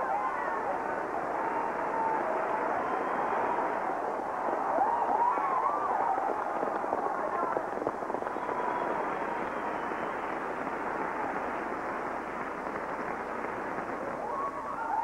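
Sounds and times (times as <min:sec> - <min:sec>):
audience applauding: 0:00.0 - 0:15.0
shouts and cheers: 0:00.0 - 0:15.0.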